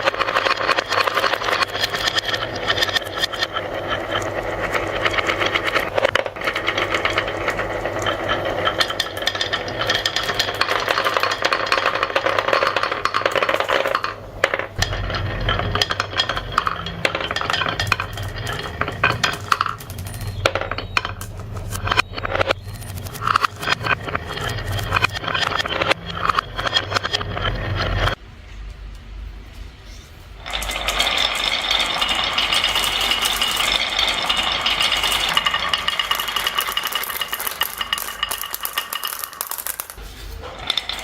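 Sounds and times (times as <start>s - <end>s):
marbles rolling and clacking: 0.0s - 28.2s, 30.4s - 41.0s.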